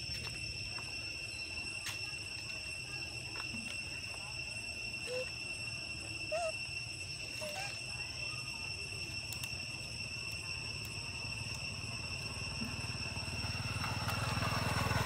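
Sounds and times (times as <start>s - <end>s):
faint chirps: 0.0s - 14.2s
insects droning: 0.0s - 15.0s.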